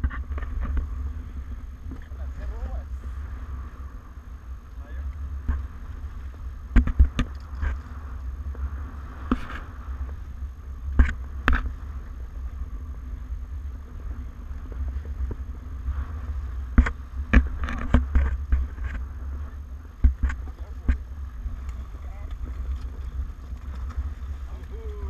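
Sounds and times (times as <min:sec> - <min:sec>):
water rushing along hull: 0:00.0 - 0:25.0
wind rumbling on microphone: 0:00.0 - 0:25.0.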